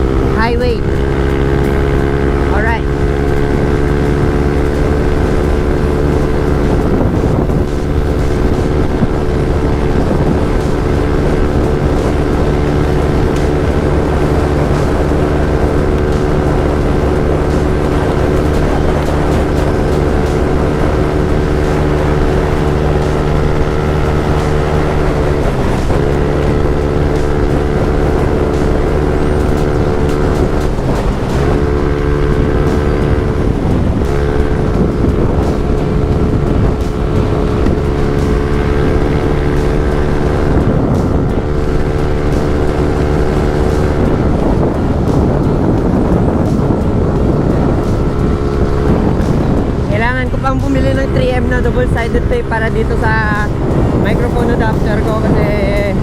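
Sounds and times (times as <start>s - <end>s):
scooter engine cruising: 0.0s - 56.0s.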